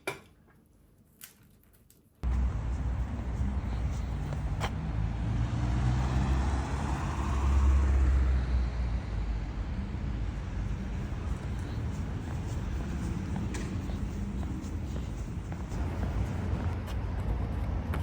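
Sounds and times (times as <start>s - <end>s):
passing cars rumbling: 2.2s - 18.0s.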